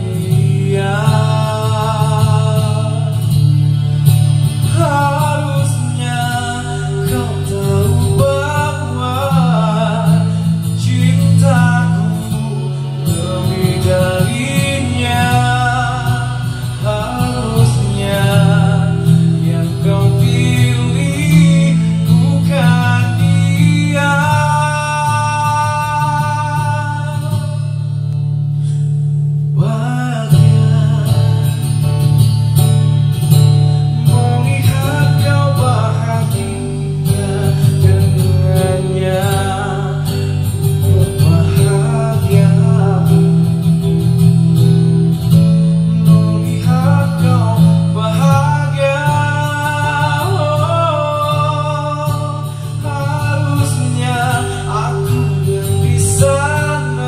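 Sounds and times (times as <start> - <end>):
man singing into a microphone: 0.0 - 32.4, 33.9 - 57.0
music backing track: 0.0 - 57.0.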